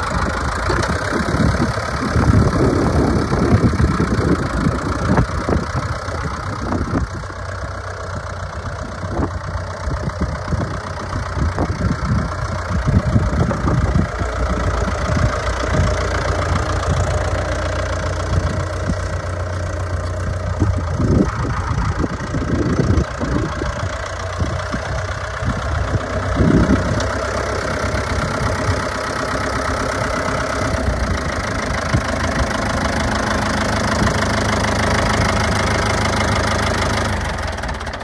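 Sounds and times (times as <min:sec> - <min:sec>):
tractor engine running at low speed: 0:00.0 - 0:38.0.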